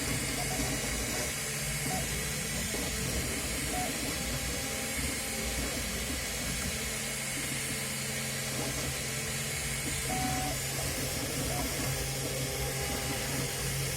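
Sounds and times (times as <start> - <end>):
fan hiss: 0.0 - 13.9
stepper motor whines: 0.0 - 13.9.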